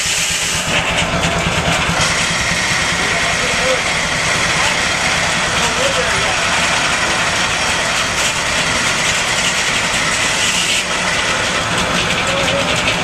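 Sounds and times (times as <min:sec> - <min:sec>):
engine idling: 0:00.0 - 0:13.0
fast fine rattle: 0:00.0 - 0:13.0
mechanical clatter: 0:00.0 - 0:13.0.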